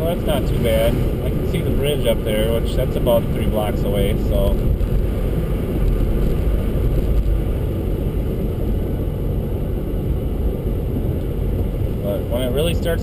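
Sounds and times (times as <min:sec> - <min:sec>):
car driving on slushy road: 0:00.0 - 0:13.0.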